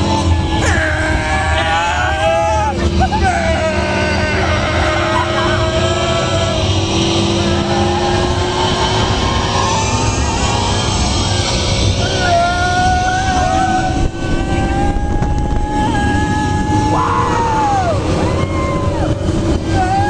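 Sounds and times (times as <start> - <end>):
wind and tyre rumble: 0.0 - 20.0.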